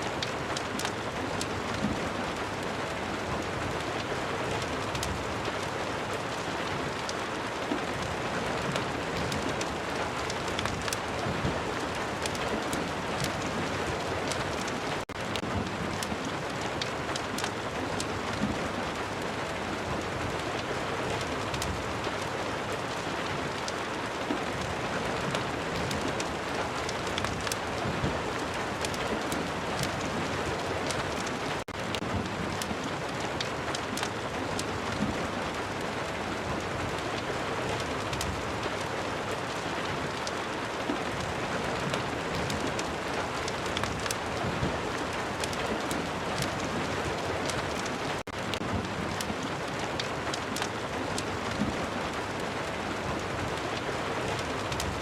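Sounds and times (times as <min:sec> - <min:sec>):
steady rain: 0:00.0 - 0:55.0
wood fire crackling and popping: 0:00.1 - 0:55.0.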